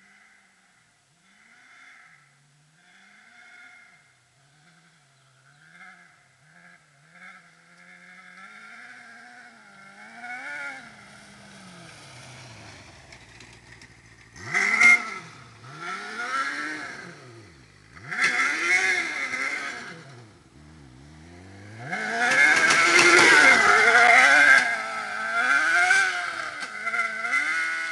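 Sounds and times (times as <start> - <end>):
buggy engine revving: 1.3 - 27.9.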